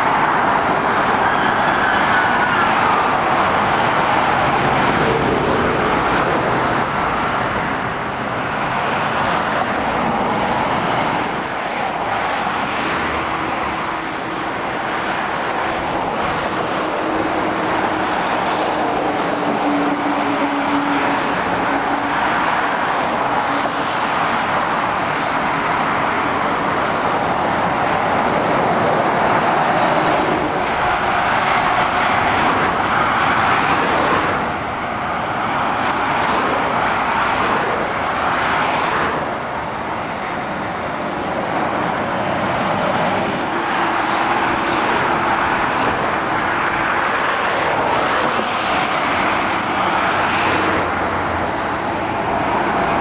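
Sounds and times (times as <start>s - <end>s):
traffic driving past: 0.0s - 53.0s
tyres roaring on road: 0.0s - 53.0s.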